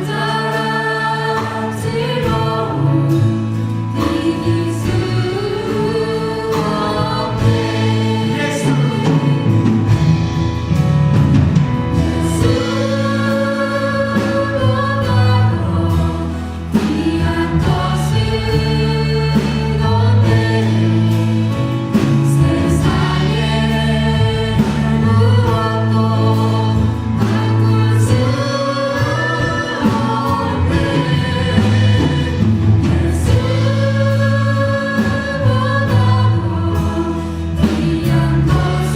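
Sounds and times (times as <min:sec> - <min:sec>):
group singing a worship song: 0:00.0 - 0:10.8, 0:11.4 - 0:38.9
band accompaniment with bass: 0:00.0 - 0:38.9.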